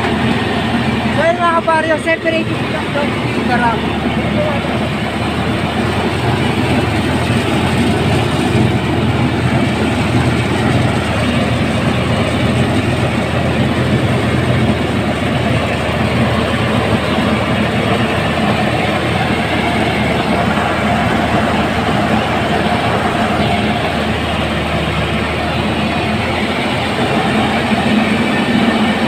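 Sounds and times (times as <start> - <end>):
rice mill running: 0.0 - 29.0.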